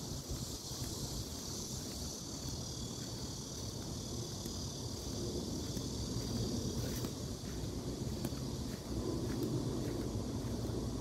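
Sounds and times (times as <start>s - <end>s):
steady high hiss: 0.0s - 11.0s
wind buffeting microphone: 0.0s - 11.0s.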